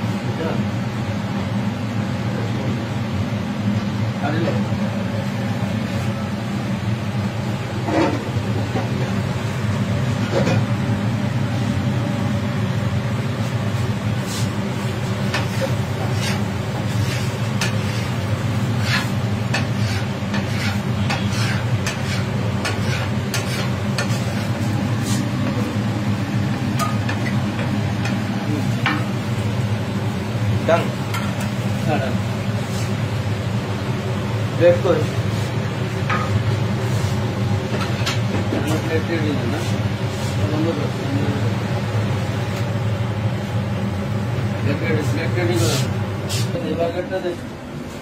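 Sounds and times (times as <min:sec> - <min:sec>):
griddle frying: 0:00.0 - 0:46.7.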